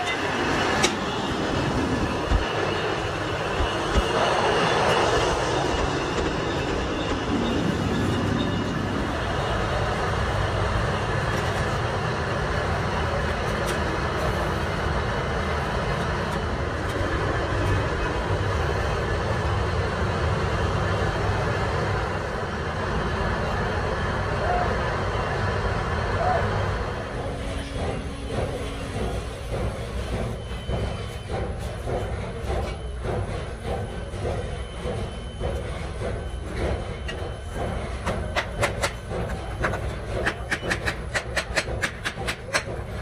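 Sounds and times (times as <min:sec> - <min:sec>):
rumbling foundry yard noise: 0:00.0 - 0:43.0.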